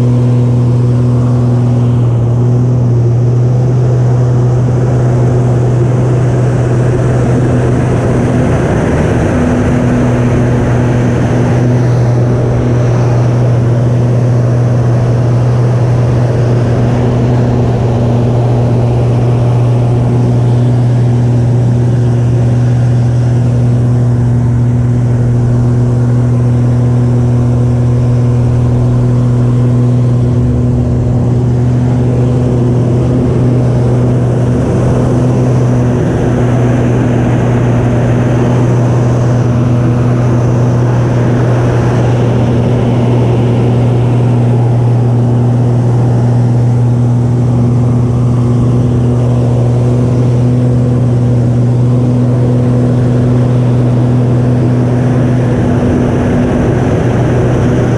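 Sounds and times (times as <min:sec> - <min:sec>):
plane engine and propeller droning: 0:00.0 - 0:57.9.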